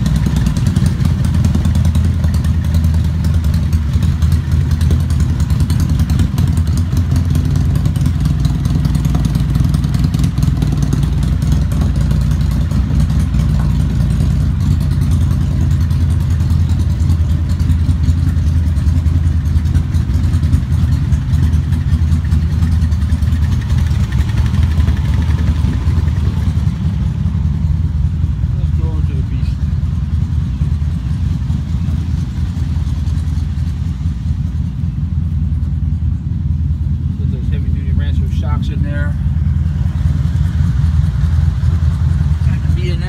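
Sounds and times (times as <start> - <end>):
atv engine idling: 0.0 - 43.0.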